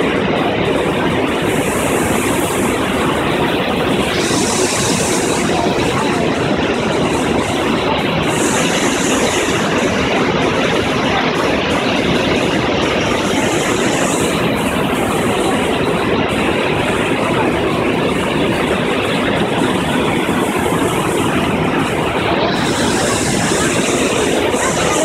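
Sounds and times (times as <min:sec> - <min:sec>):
rushing water roar: 0:00.0 - 0:25.0.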